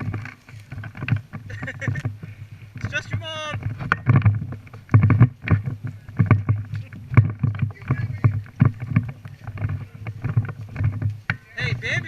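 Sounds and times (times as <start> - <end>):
gear rustling: 0.0 - 12.0.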